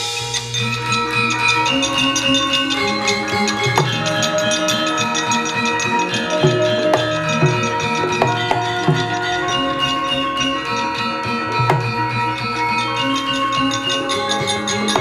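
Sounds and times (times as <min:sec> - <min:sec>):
metallophone ringing: 0:00.0 - 0:15.0.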